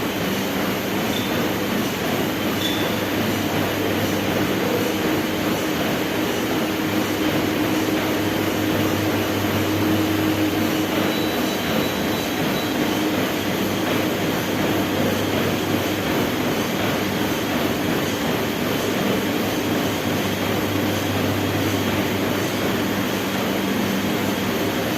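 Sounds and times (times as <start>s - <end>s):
treadmill belt noise: 0.0s - 24.9s
treadmill motor hum: 0.0s - 24.9s.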